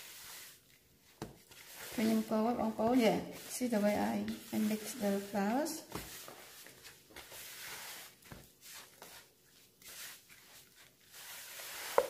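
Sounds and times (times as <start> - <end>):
scraping dough in plastic bowl: 1.4 - 12.0.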